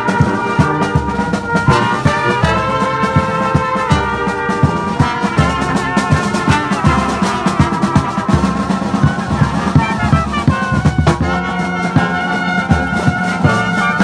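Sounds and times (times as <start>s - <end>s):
brass band playing: 0.0s - 14.0s
steady drum beat: 0.0s - 14.0s.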